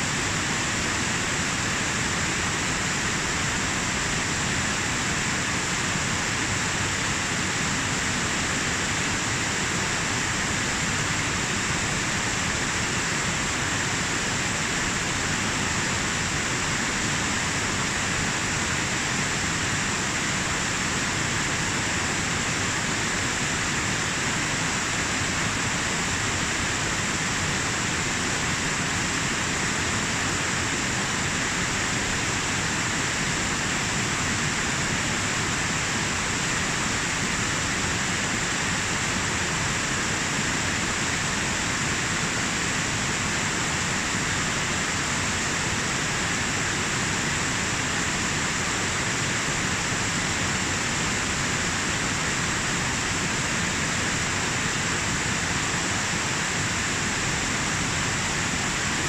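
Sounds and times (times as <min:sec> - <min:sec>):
waterfall rushing over boulders: 0:00.0 - 0:59.0.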